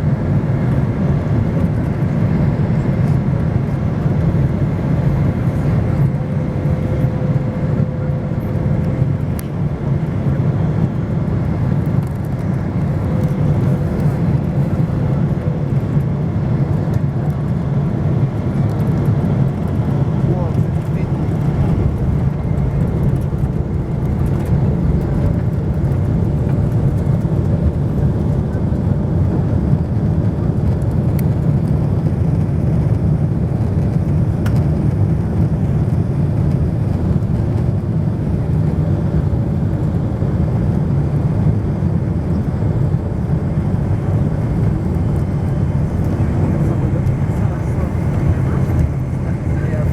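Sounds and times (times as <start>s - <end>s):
airliner engine rumble in cabin: 0.0s - 49.9s.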